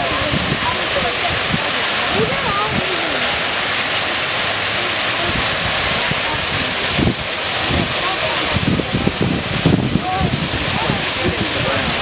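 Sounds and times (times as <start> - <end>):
wind buffeting microphone: 0.0 - 3.5, 5.2 - 12.0
faint distant voices: 0.0 - 12.0.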